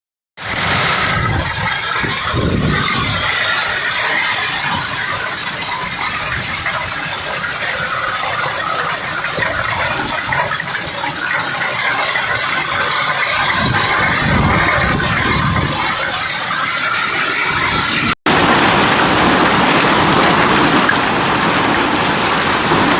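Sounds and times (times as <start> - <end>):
hailstones pelting down: 0.4 - 22.9.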